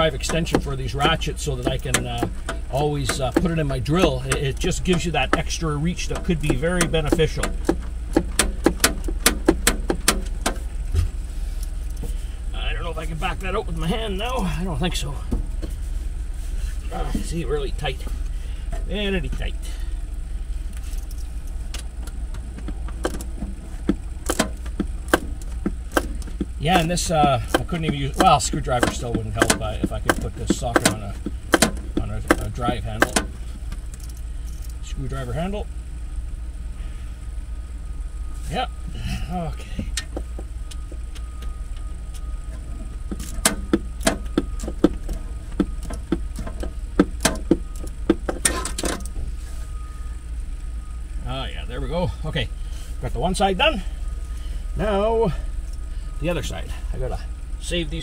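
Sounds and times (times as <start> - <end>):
steady low hum: 0.0 - 58.0
steady low rumble: 0.0 - 58.0.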